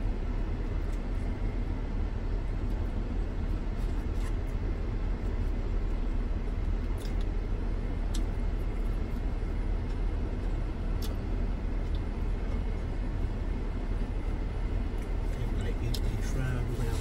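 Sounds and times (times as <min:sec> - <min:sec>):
van engine idling: 0:00.0 - 0:17.0.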